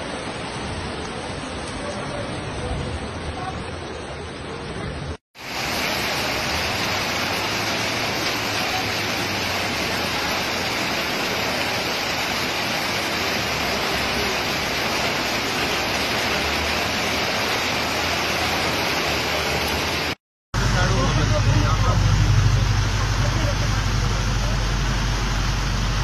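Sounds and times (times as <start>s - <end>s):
floodwater rushing on street: 0.0s - 26.0s
heavy rain: 0.0s - 26.0s.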